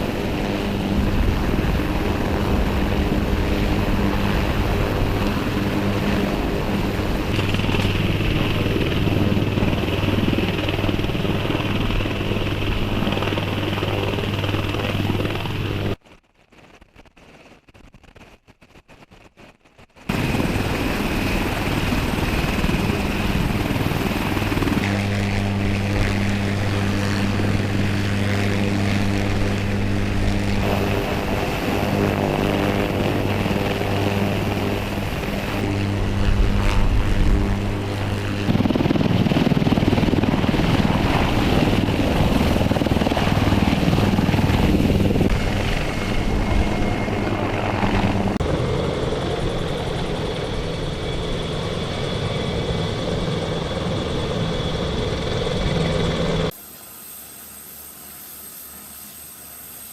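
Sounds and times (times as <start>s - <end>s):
helicopter engine and rotor: 0.0s - 16.0s, 18.1s - 59.9s.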